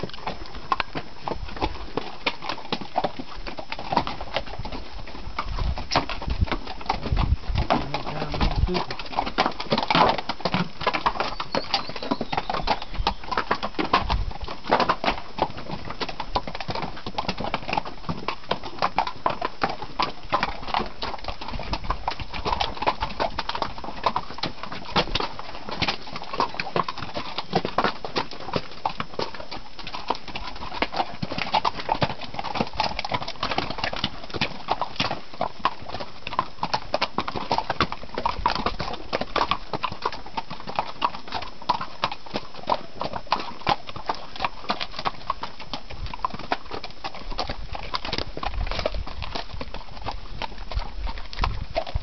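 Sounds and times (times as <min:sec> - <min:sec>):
hooves clopping on rocky trail: 0:00.0 - 0:52.0.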